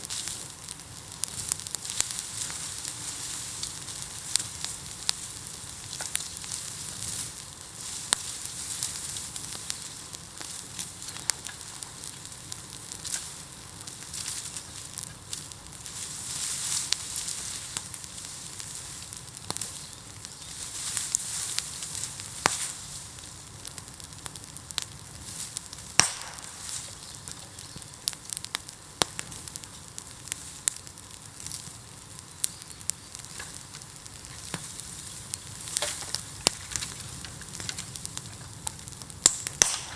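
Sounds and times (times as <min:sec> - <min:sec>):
bamboo popping in fire: 0:00.0 - 0:39.9
bonfire hissing and crackling: 0:00.0 - 0:39.9.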